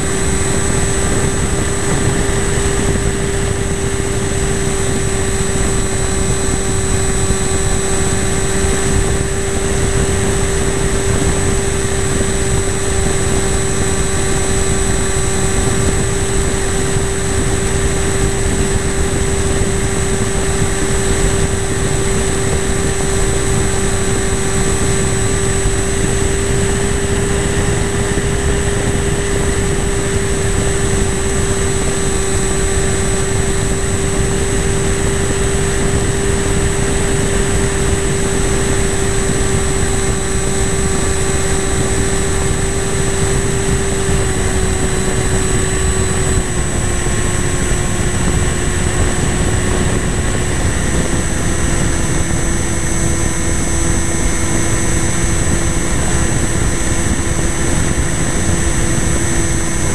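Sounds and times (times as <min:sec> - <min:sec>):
model airplane motor and propeller: 0:00.0 - 0:59.9
wind rush over microphone: 0:00.0 - 0:59.9.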